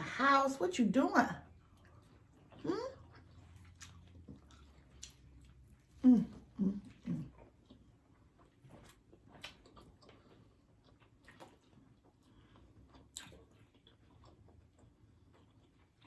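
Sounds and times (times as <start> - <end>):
chewing crusty sandwich: 1.4 - 16.0.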